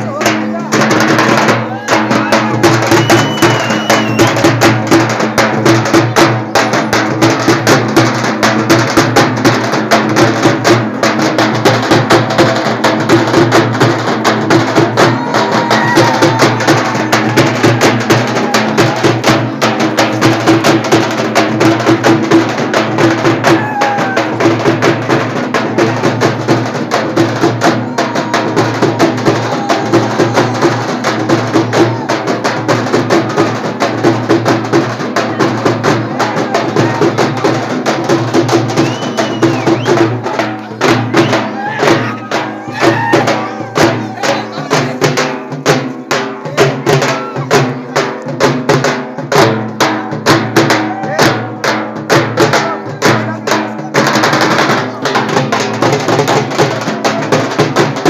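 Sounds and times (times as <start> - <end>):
frame drums beaten rapidly: 0.0 - 58.0.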